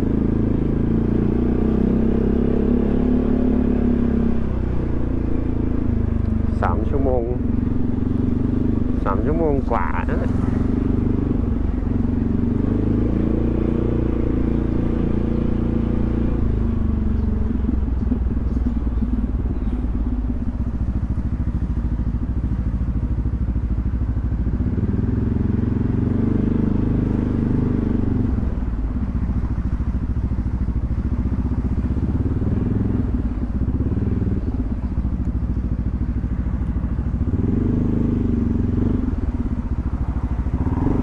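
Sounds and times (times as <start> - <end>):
scooter engine running: 0.0 - 41.0.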